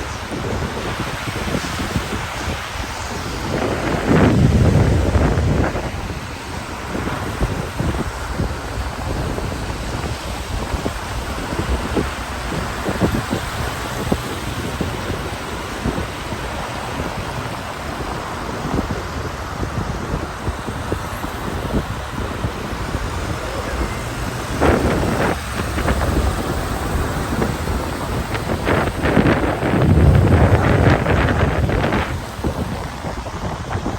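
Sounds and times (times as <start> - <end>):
rain: 0.0 - 33.9
traffic hiss on wet road: 0.0 - 33.9
wind buffeting microphone: 0.0 - 33.9.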